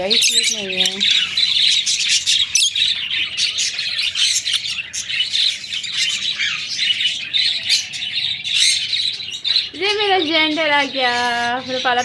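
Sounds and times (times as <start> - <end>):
parrots chattering: 0.0 - 12.0.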